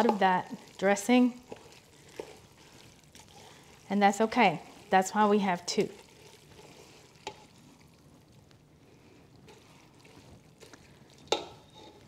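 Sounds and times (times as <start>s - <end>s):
wet squishing and slopping: 0.0s - 12.0s
wooden spoon stirring spaghetti: 0.0s - 12.0s.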